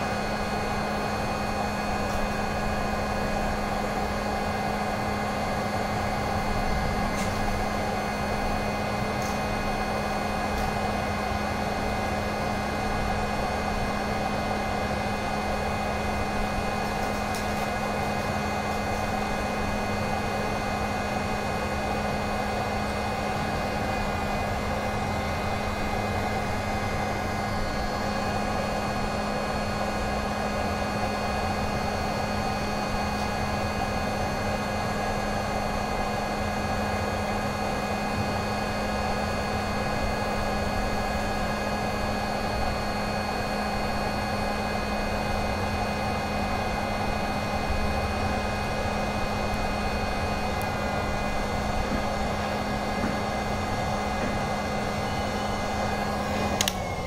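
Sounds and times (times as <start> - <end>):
fan motor whine: 0.0 - 57.0.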